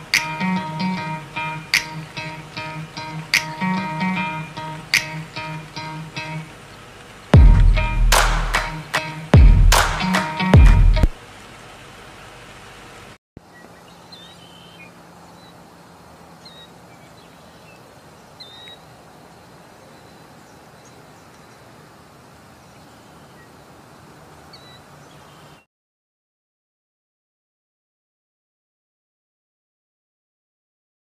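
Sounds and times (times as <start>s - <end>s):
steady outdoor hiss: 0.0s - 25.7s.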